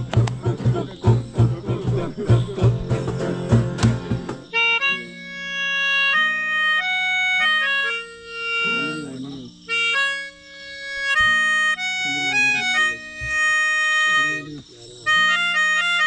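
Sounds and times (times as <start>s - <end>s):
melodica melody: 0.0s - 16.0s
rhythmic percussive strokes: 0.0s - 16.0s
voices: 0.0s - 16.0s.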